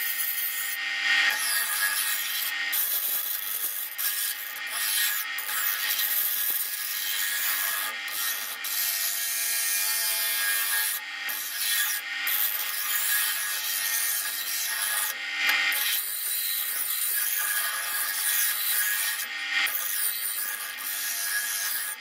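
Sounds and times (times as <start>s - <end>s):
grinder wheel grinding steel blade: 0.0s - 22.0s.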